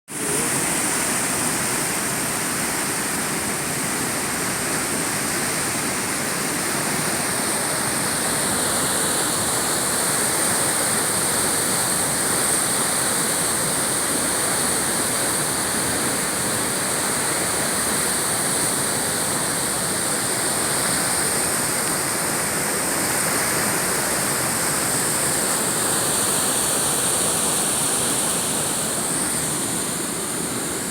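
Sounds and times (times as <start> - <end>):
large waterfall rushing: 0.1 - 30.9.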